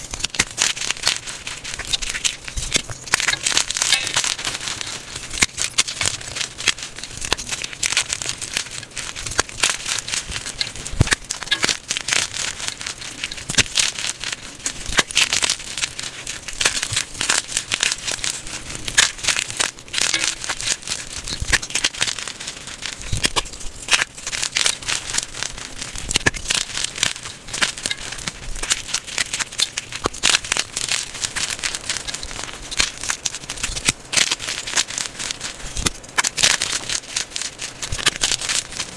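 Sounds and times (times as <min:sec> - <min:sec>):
chalk crunching and crackling: 0:00.0 - 0:38.9.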